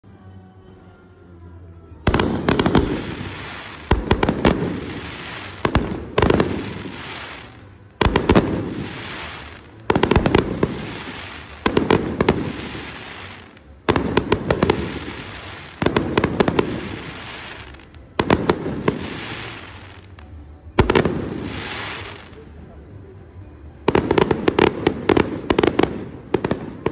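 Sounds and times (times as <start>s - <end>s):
fireworks bursting: 2.1s - 22.4s, 23.8s - 26.9s.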